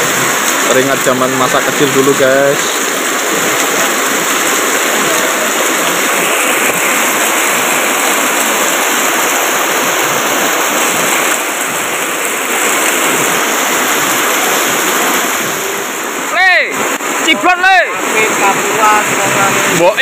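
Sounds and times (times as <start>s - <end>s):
heavy rain on concrete and water: 0.0s - 20.0s.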